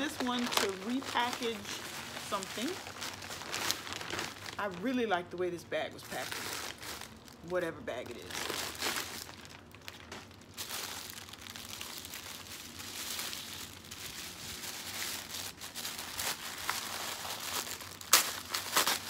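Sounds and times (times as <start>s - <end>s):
packaging crinkling: 0.0s - 5.0s, 6.0s - 19.0s.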